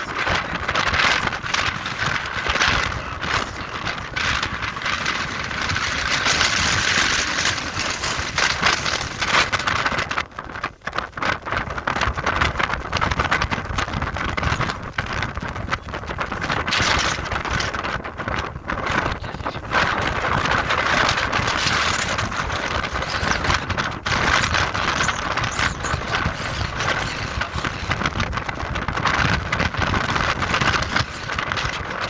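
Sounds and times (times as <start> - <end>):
strong wind buffeting microphone: 0.0 - 32.0.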